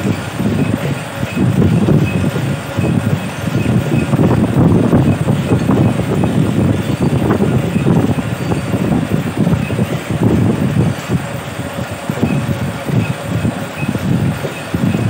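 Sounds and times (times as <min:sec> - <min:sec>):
weaving machine clattering: 0:00.0 - 0:15.0.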